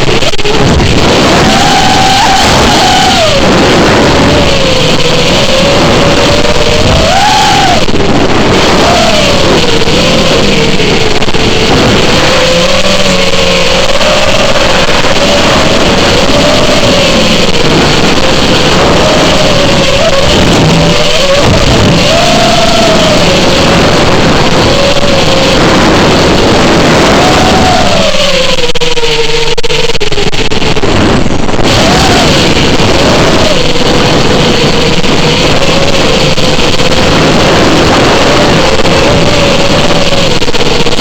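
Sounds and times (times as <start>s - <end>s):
quadcopter motors whining: 0.0s - 41.0s
steady rush of noise: 0.0s - 41.0s.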